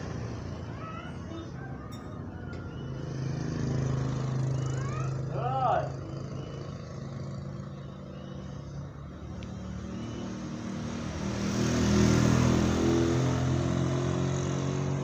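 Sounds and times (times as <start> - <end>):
motorcycle engines passing: 0.0 - 15.0.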